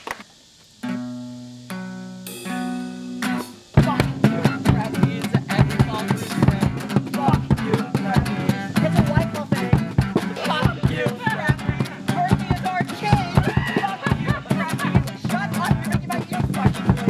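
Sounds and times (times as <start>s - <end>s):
guitar: 0.0s - 17.0s
drum kit beat: 2.2s - 17.0s.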